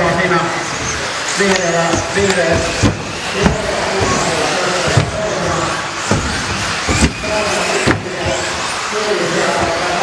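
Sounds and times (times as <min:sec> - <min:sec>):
rc car motors whining: 0:00.0 - 0:10.0
tyres hissing: 0:00.0 - 0:10.0
cars knocking on track: 0:00.6 - 0:10.0.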